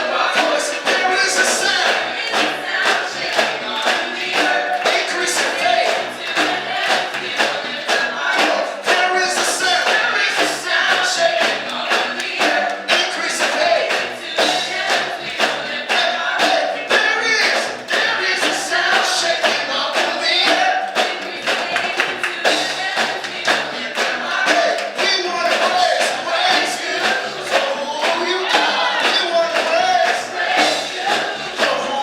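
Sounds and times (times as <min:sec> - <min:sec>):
choir singing: 0:00.0 - 0:32.0
steady percussive beat: 0:00.0 - 0:32.0.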